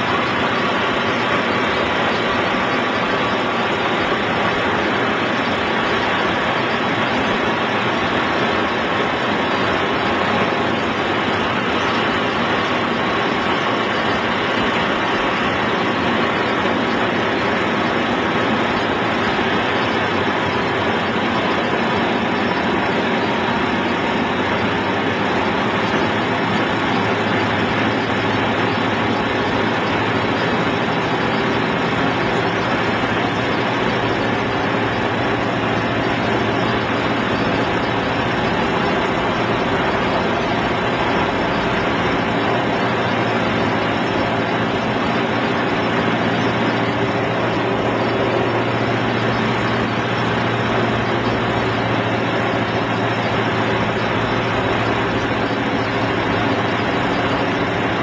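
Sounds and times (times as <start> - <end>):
plane engine and propeller: 0.0 - 58.0.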